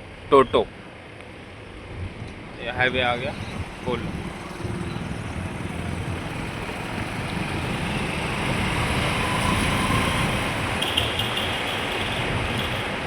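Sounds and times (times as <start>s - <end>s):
road and wind noise of moving vehicle: 0.0s - 13.0s.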